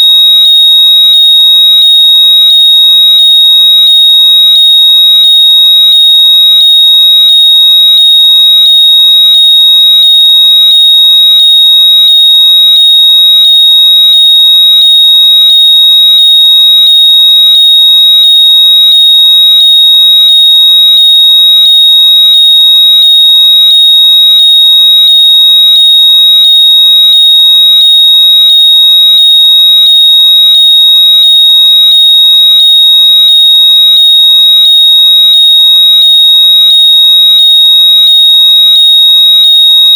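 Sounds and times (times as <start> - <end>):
high-pitched locator whistle: 0.0 - 39.9.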